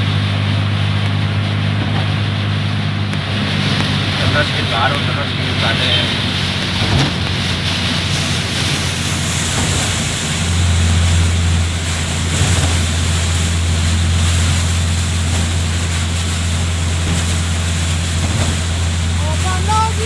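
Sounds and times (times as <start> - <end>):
deep low rumble: 0.0 - 20.0
heavy rain: 0.0 - 20.0
strong wind: 0.0 - 20.0.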